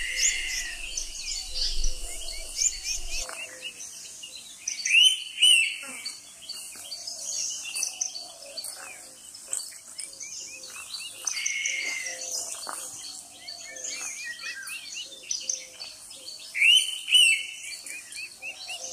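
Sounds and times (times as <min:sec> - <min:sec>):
forest birds chirping and trilling: 0:00.0 - 0:18.9.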